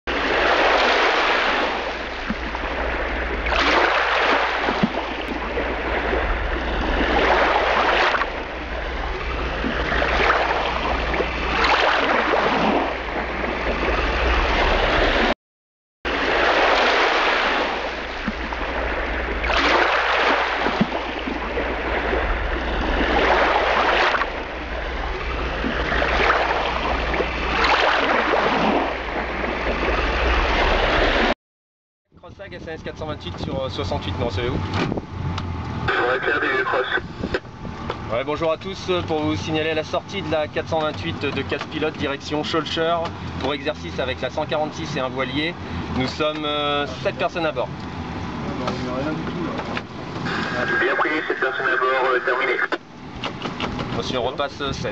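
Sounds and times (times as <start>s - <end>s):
sea waves washing in: 0.1s - 15.4s, 16.1s - 31.4s, 35.0s - 53.2s.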